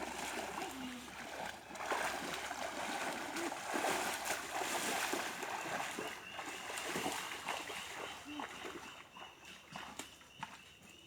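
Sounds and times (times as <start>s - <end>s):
pond water splashing: 0.0s - 10.6s.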